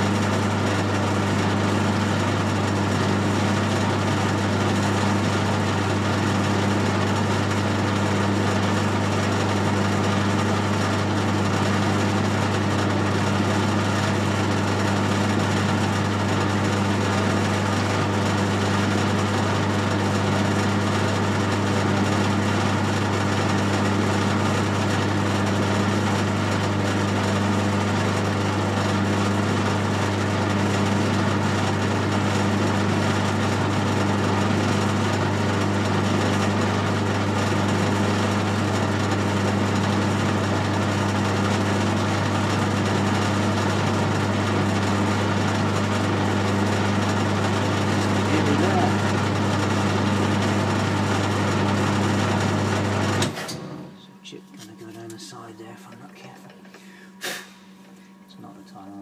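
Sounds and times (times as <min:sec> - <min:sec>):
metal lathe motor humming: 0:00.0 - 0:53.8.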